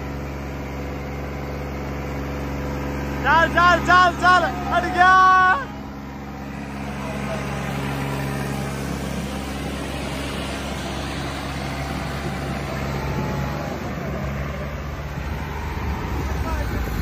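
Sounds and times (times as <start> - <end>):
diesel tractor engines straining: 0.0 - 17.0.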